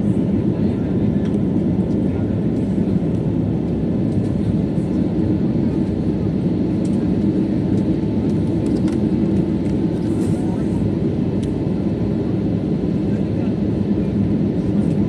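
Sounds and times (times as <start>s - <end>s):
airliner engines roaring: 0.0s - 15.0s.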